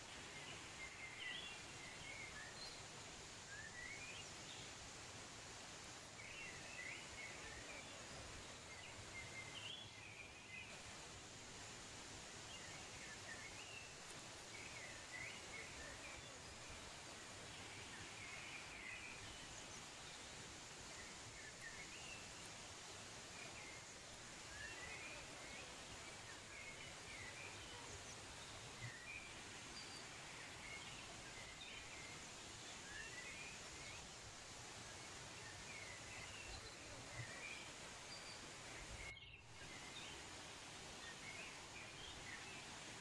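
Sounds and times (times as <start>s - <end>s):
soft hiss: 0.0s - 43.0s.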